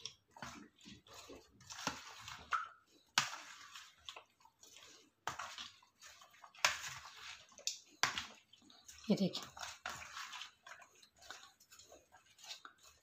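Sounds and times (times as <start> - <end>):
spatula stirring wet mixture: 0.0 - 13.0.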